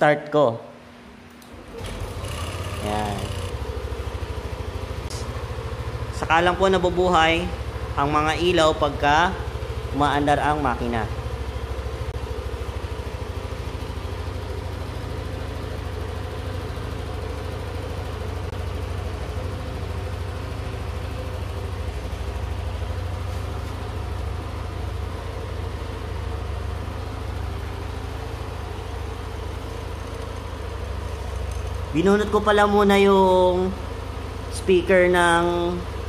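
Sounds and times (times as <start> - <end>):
scooter engine idling: 1.5 - 36.0.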